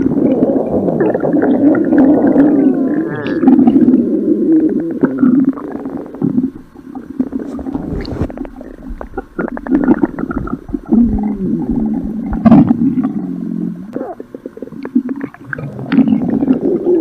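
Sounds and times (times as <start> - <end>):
stomach growling and gurgling: 0.0 - 17.0.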